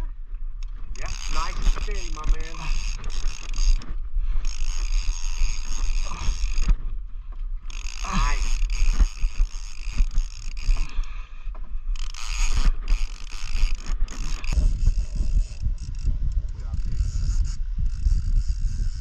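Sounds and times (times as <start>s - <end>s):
fishing reel gears clicking and whirring: 0.6s - 6.9s, 7.6s - 19.0s.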